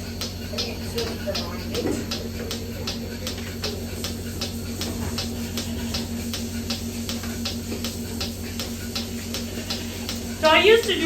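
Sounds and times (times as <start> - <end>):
pulsator clicking: 0.0 - 11.0
vacuum pump hum: 0.0 - 11.0.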